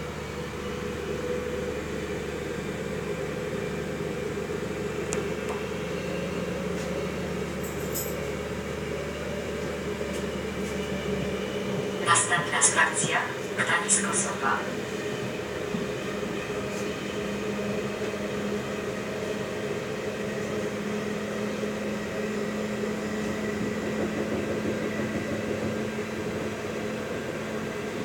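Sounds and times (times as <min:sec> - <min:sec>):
train cabin running hum: 0:00.0 - 0:28.0.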